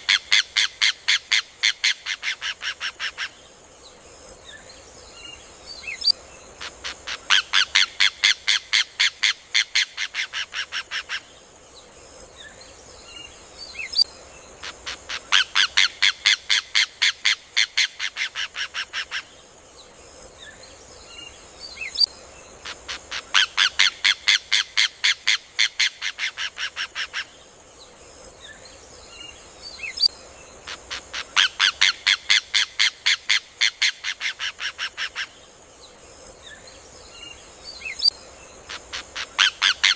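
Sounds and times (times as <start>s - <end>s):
faint bird chirps: 0.0s - 24.9s, 25.6s - 39.9s
steady high hiss: 0.0s - 39.9s.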